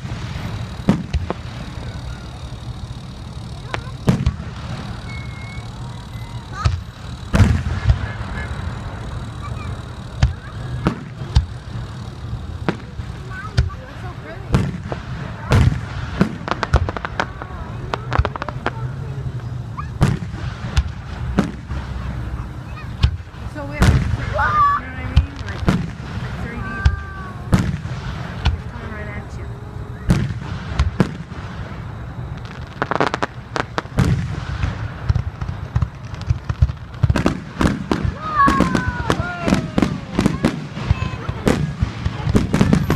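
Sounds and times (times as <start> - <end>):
fireworks bangs: 0.0 - 42.9.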